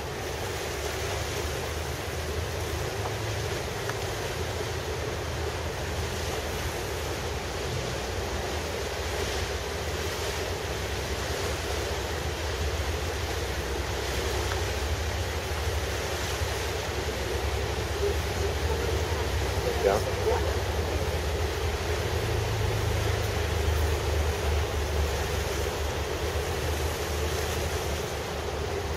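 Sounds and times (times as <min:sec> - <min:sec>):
harbour water: 0:00.0 - 0:28.9
steady low rumble: 0:00.0 - 0:28.9.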